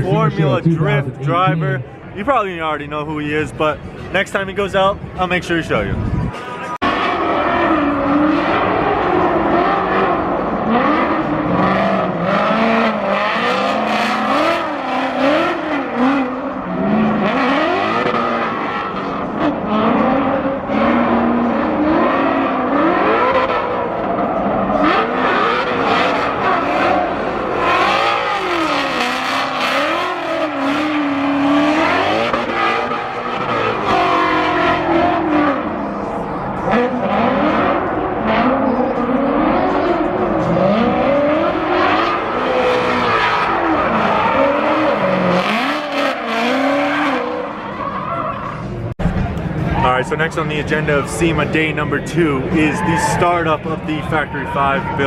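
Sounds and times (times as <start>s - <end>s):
car engine revving: 5.8s - 55.0s.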